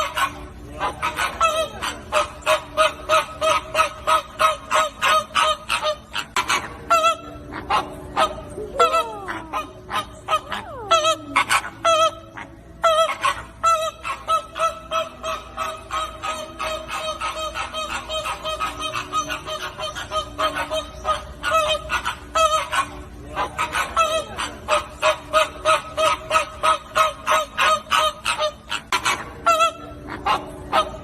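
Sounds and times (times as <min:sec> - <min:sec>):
flamingos honking: 0:00.0 - 0:31.0.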